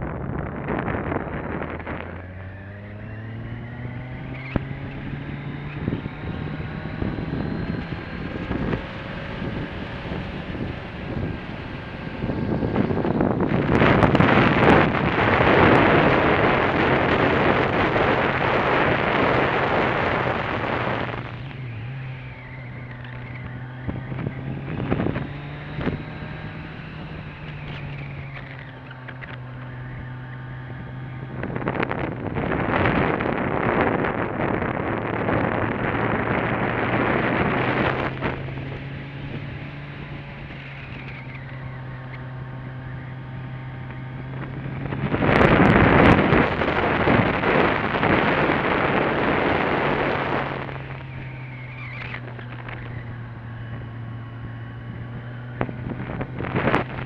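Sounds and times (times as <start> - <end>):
motorcycle engine accelerating: 0.0 - 57.0
wind on microphone: 0.0 - 57.0.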